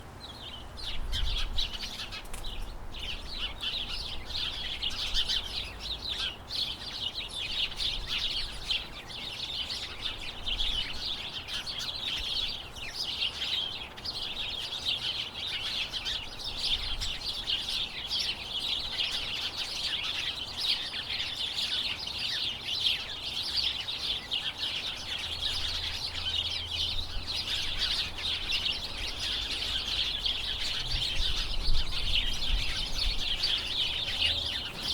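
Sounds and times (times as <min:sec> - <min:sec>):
flock of small birds chirping: 0:00.0 - 0:34.9.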